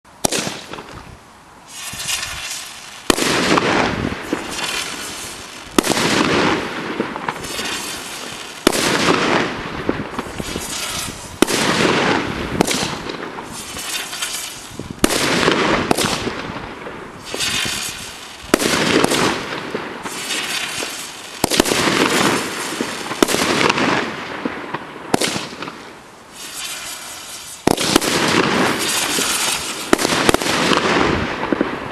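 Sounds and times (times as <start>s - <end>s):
firework hissing crackling spray: 0.2s - 31.9s.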